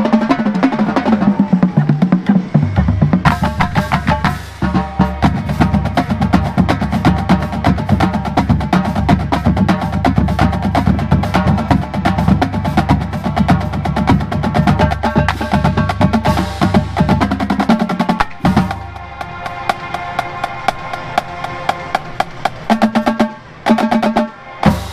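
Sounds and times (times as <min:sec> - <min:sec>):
bass drums: 0:00.0 - 0:23.2
snare drums: 0:00.0 - 0:24.9.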